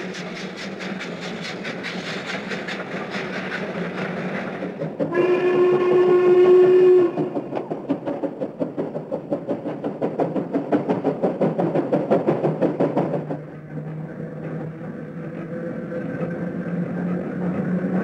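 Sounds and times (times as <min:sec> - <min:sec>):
electric train hum: 0:00.0 - 0:18.0
steam locomotive chuffing: 0:00.0 - 0:18.0.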